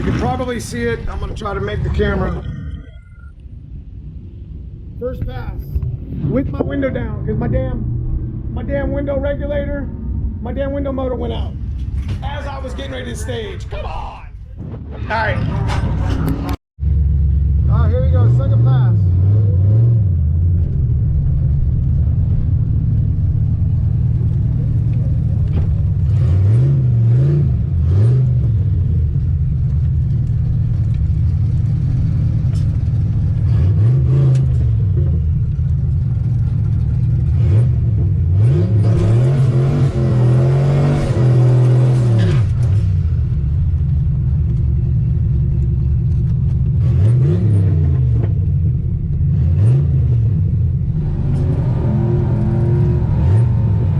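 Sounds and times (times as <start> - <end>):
car engine idling and revving: 0.0 - 13.8, 14.4 - 53.9.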